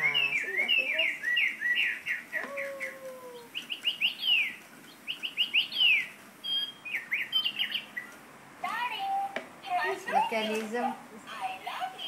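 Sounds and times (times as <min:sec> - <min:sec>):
parrot chirping: 0:00.0 - 0:10.6.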